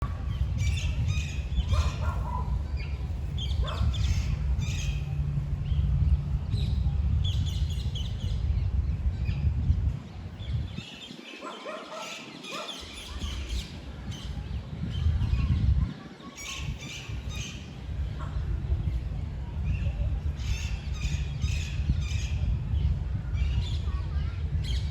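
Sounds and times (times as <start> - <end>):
wind buffeting microphone: 0.0 - 24.9
birds chirping and calling: 0.1 - 19.0, 19.7 - 24.9.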